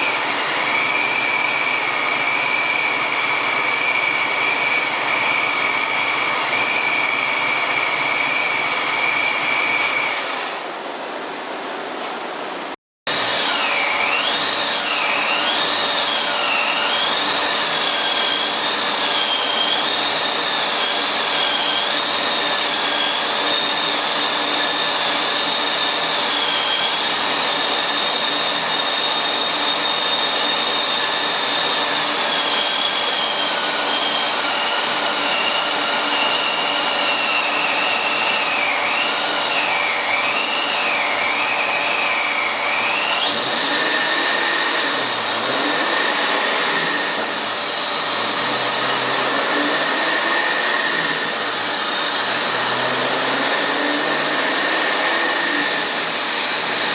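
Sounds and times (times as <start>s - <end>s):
car engine on dynamometer: 0.0s - 56.9s
high whine: 0.0s - 56.9s.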